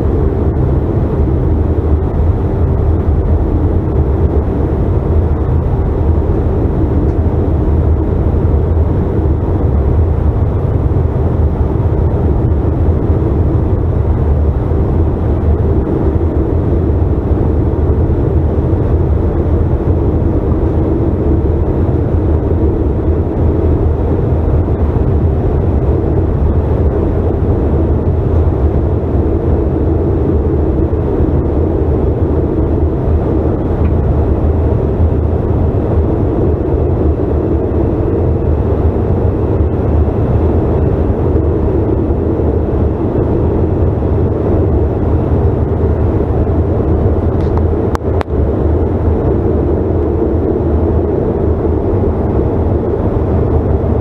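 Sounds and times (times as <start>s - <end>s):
airflow: 0.0s - 54.0s
jet engines droning in cabin: 0.0s - 54.0s.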